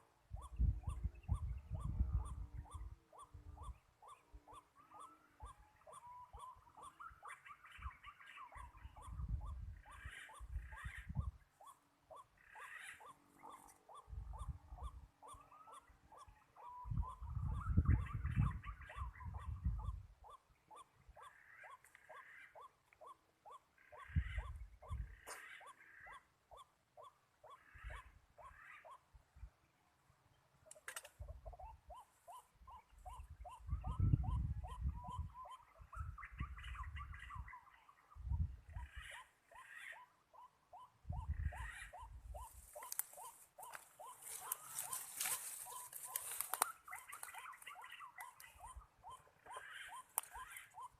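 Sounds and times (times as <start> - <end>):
waterhen croaking calls: 0.0 - 29.1, 38.7 - 50.9.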